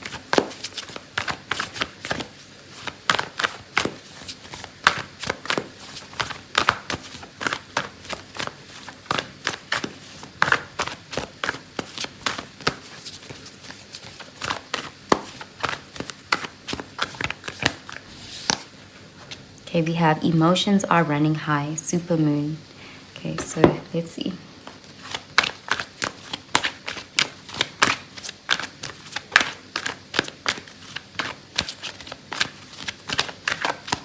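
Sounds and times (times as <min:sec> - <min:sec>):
cards being shuffled: 0:00.0 - 0:19.4, 0:24.6 - 0:34.0.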